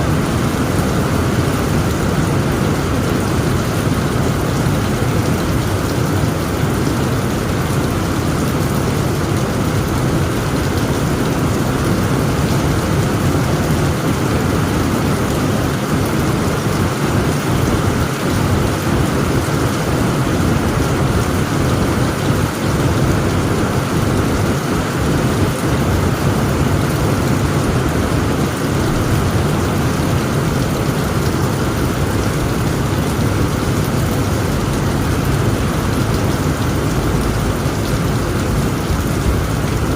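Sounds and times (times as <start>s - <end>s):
heavy rain on a tent roof: 0.0s - 39.9s.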